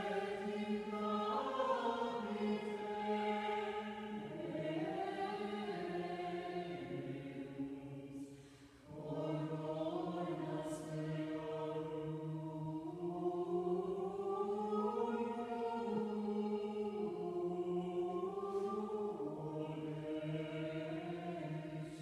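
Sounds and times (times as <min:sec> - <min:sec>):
choir singing chant: 0:00.0 - 0:22.0.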